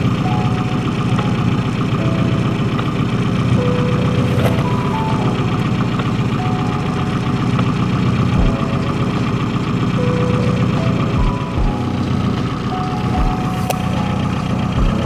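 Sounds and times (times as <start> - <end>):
background music melody: 0.0 - 15.0
car engine idling: 0.0 - 15.0.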